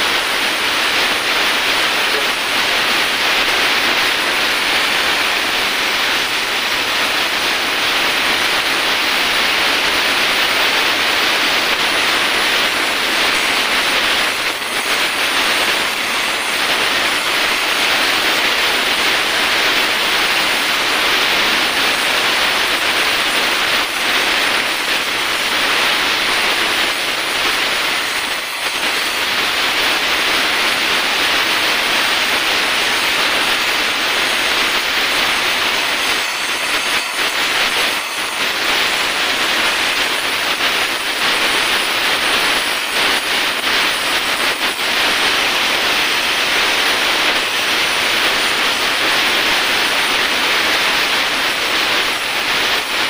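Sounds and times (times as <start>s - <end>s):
welding torch hissing: 0.0s - 53.0s.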